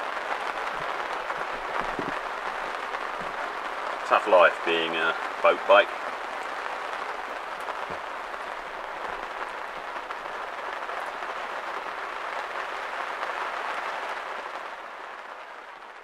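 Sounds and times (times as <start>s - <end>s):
heavy rain on deck and water: 0.0s - 16.0s.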